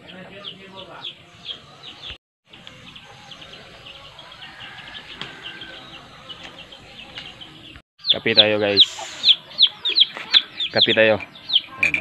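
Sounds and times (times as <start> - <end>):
small birds chirping: 0.0 - 12.0
faint outdoor hush: 0.7 - 10.6.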